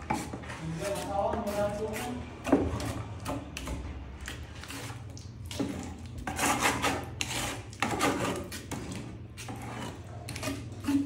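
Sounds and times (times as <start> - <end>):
trowel scraping adhesive on tile: 0.0 - 11.0.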